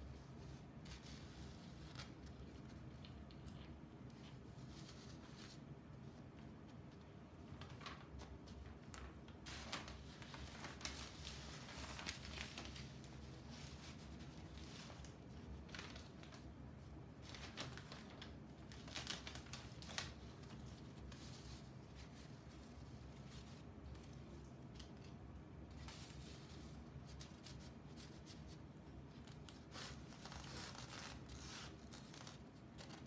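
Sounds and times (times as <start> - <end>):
faint low hum: 0.0 - 33.0
paper rustling: 0.1 - 16.6, 17.2 - 33.0.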